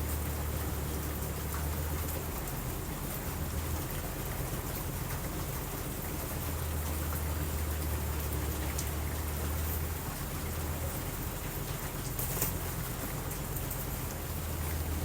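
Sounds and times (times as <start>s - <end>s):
steady rain hissing: 0.0s - 15.0s.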